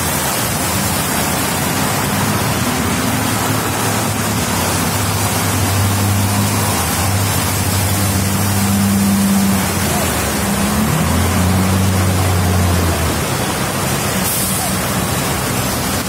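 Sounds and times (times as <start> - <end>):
rain and floodwater rushing: 0.0 - 16.0
truck engines humming: 0.0 - 16.0.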